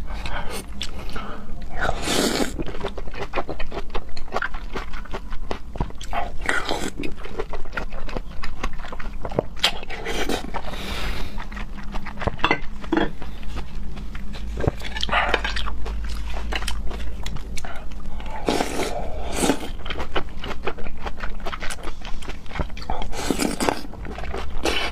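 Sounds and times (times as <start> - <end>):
wet chewing and mouth clicks: 0.2 - 24.9.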